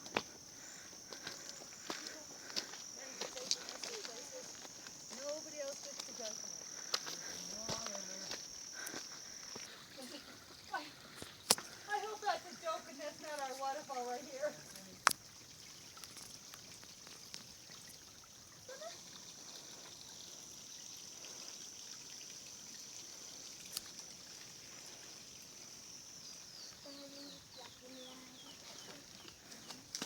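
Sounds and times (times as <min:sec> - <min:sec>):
high-pitched hiss: 0:00.0 - 0:30.0.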